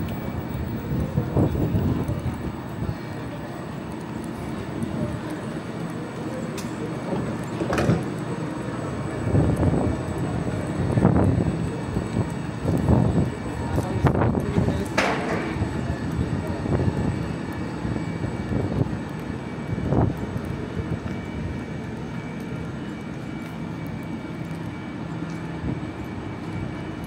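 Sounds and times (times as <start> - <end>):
passenger train rumbling: 0.0 - 27.0.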